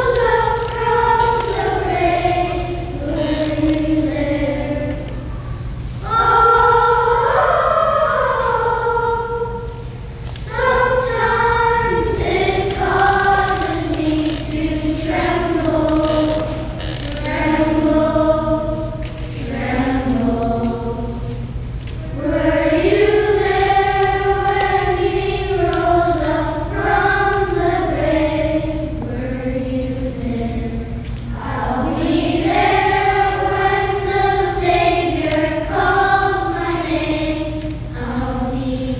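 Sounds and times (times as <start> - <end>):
children's choir singing: 0.0 - 38.9
low hum: 0.0 - 38.9.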